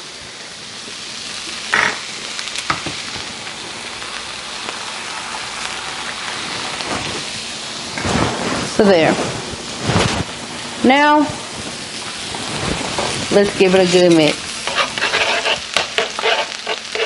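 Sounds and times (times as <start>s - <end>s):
food sizzling on griddle: 0.0s - 17.0s.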